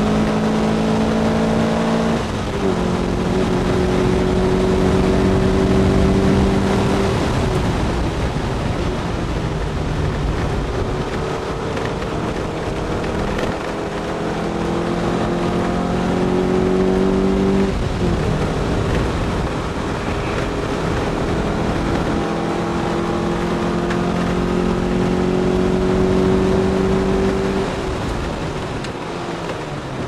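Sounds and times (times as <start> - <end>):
car engine at speed: 0.0 - 30.0
wind and road noise: 0.0 - 30.0.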